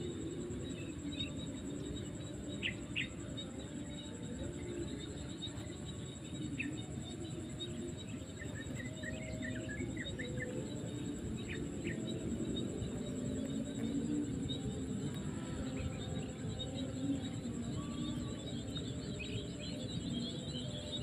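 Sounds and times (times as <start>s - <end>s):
high insect trill: 0.0s - 21.0s.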